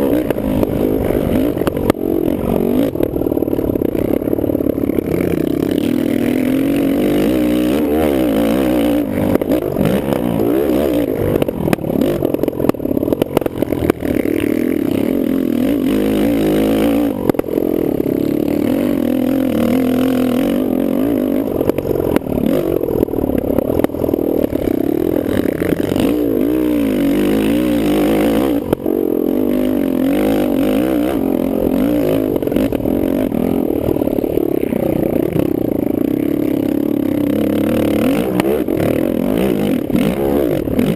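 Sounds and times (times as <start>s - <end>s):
knocks and rattles over rough ground: 0.0s - 40.9s
quad engine revving: 0.0s - 40.9s.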